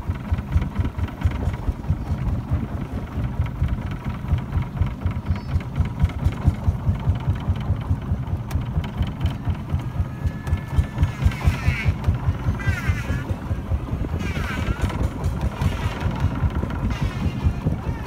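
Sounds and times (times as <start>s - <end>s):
boat motor chugging: 0.0s - 18.0s.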